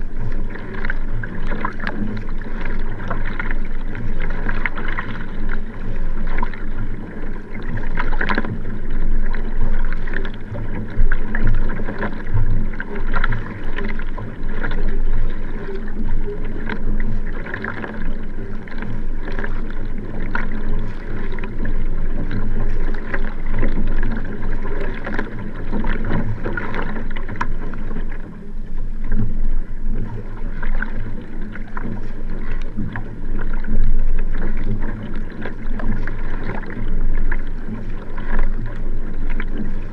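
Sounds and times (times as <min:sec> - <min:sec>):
paddle strokes splashing: 0:00.0 - 0:39.9
water rushing along kayak hull: 0:00.0 - 0:39.9.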